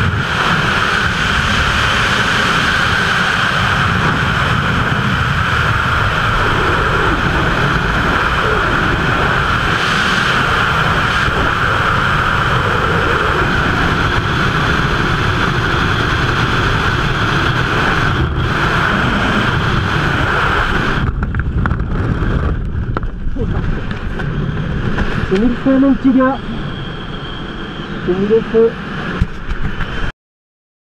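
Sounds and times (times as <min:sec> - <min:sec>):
wind rushing over microphone: 0:00.0 - 0:30.1.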